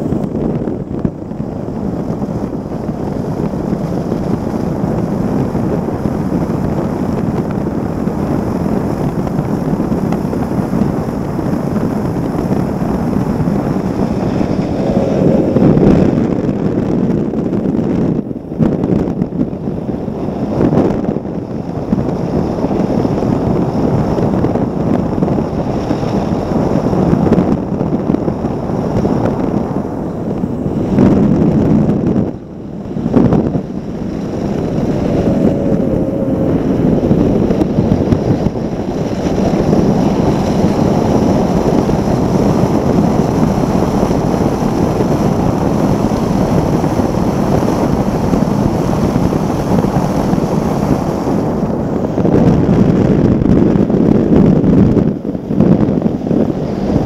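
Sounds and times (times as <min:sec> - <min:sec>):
rushing water and spray: 0:00.0 - 0:17.5, 0:18.2 - 0:53.1
wind buffeting on microphone: 0:00.0 - 0:57.0.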